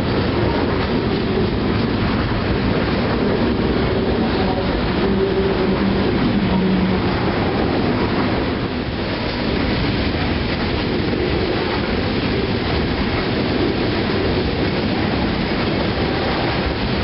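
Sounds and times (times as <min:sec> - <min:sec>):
steel wheels rolling on rails: 0:00.0 - 0:17.0.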